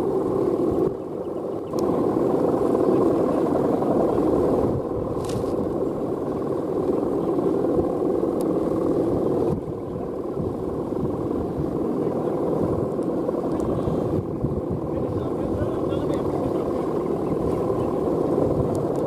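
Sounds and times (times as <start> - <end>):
kite hummer droning in wind: 0.0 - 19.0.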